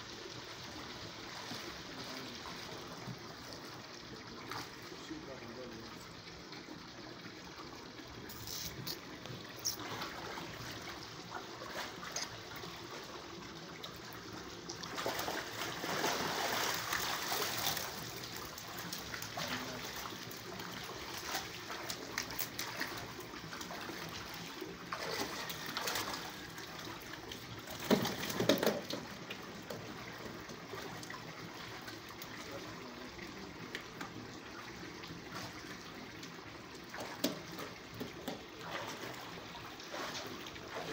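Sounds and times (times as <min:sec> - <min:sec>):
water sloshing and splashing: 0:01.0 - 0:05.4, 0:07.3 - 0:40.9.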